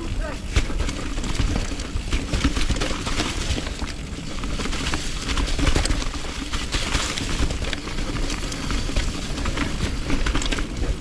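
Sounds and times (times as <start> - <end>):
bike rattling and knocking: 0.0 - 11.0
bike tyres rolling over dirt and rock: 0.0 - 11.0
low wind rumble: 0.0 - 11.0.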